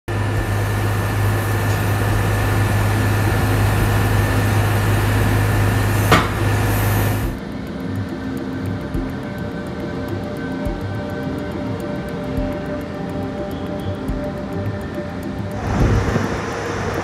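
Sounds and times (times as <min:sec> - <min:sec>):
engine-like drone: 0:00.0 - 0:17.0.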